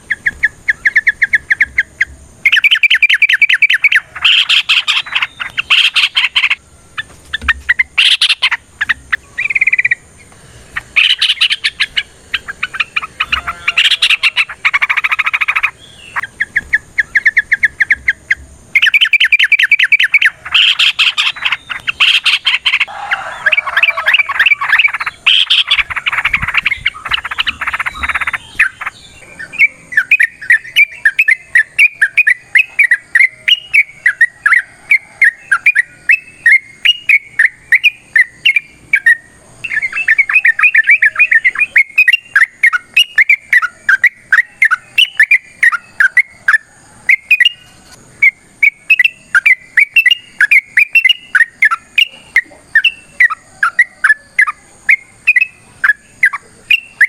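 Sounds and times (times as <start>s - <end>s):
bird singing chattering runs: 0.0s - 47.6s, 48.2s - 57.0s.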